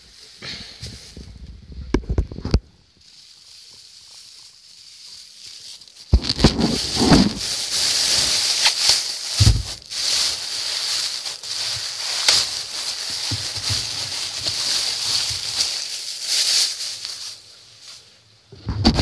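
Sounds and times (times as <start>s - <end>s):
rustling against microphone: 0.0s - 19.0s.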